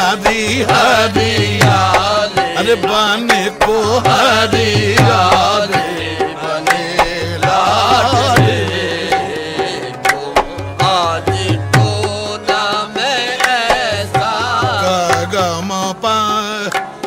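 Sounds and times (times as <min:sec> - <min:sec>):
singer ornamented vocal runs: 0:00.0 - 0:16.9
tabla strokes: 0:00.2 - 0:15.6.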